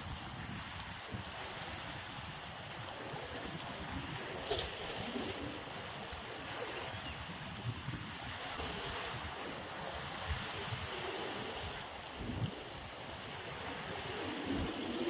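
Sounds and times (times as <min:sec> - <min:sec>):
sea surf washing: 0:00.0 - 0:15.0
wind buffeting microphone: 0:00.0 - 0:15.0.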